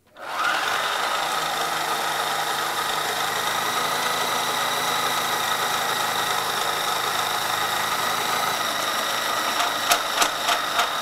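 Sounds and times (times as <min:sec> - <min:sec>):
food processor motor whining: 0:00.0 - 0:11.0
cutter slicing carrot: 0:00.2 - 0:11.0.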